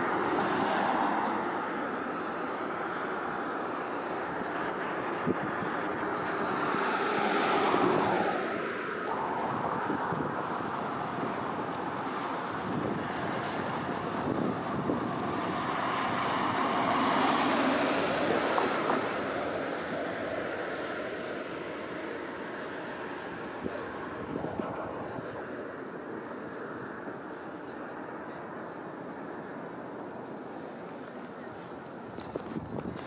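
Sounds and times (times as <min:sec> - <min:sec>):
cars passing: 0:00.0 - 0:33.0
street traffic noise: 0:00.0 - 0:33.0.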